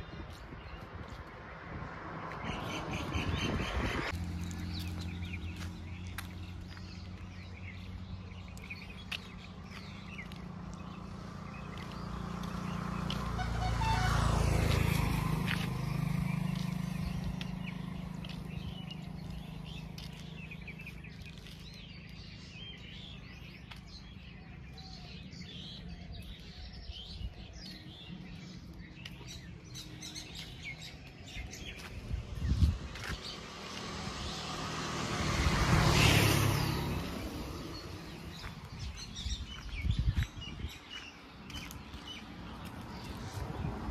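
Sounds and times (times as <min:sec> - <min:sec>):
vehicle passing on road: 0:00.0 - 0:43.9
small birds chirping: 0:02.3 - 0:14.0, 0:14.6 - 0:43.9.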